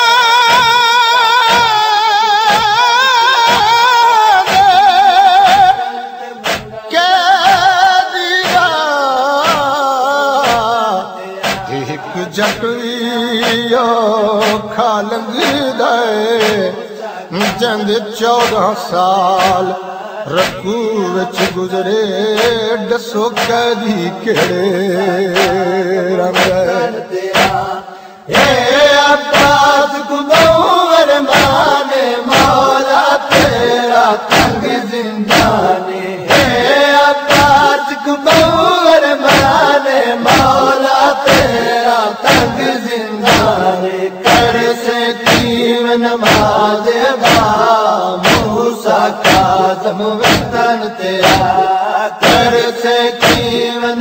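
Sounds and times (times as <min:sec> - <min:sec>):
voices chanting a lament: 0:00.0 - 0:54.0
sharp beats: 0:00.4 - 0:06.8, 0:08.4 - 0:08.8, 0:09.4 - 0:09.8, 0:10.4 - 0:10.7, 0:11.4 - 0:13.8, 0:14.4 - 0:15.8, 0:16.4 - 0:17.8, 0:18.4 - 0:18.8, 0:19.4 - 0:20.7, 0:21.3 - 0:21.8, 0:22.4 - 0:22.7, 0:23.4 - 0:53.7.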